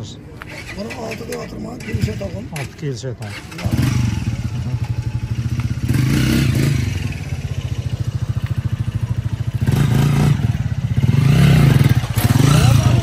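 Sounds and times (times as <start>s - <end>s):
motorcycle engine revving: 0.4s - 13.0s.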